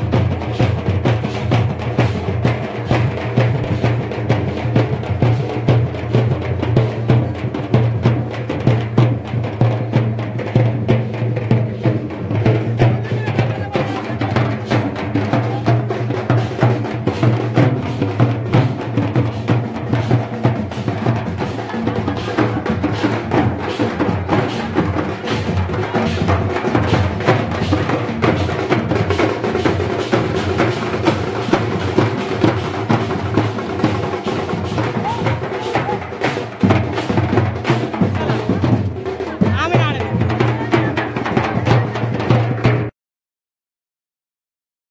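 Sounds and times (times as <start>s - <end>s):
drums playing fast rhythm: 0.0s - 42.9s.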